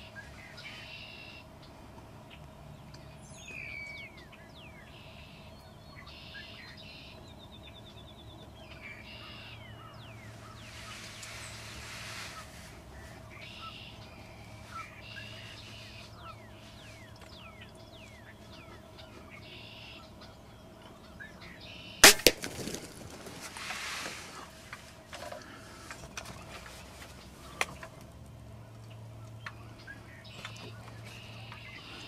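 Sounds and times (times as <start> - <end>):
songbirds singing: 0.0 - 32.0.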